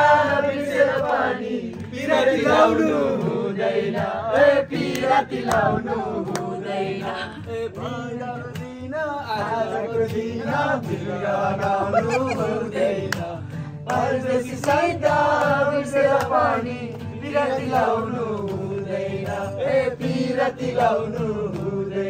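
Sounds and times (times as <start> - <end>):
group singing folk song: 0.0 - 22.0.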